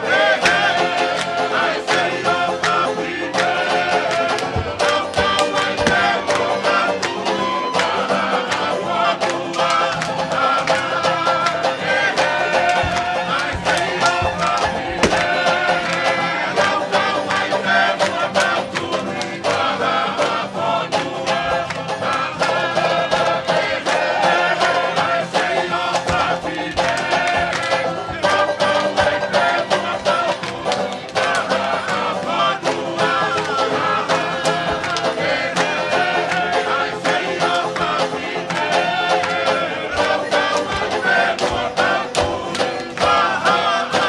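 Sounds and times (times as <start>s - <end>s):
group singing: 0.0s - 44.0s
strummed string band: 0.0s - 44.0s.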